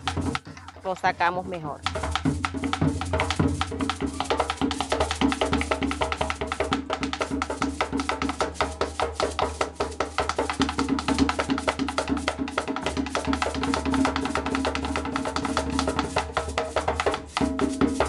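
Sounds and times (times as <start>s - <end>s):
music with fast percussion beat: 0.0s - 18.0s.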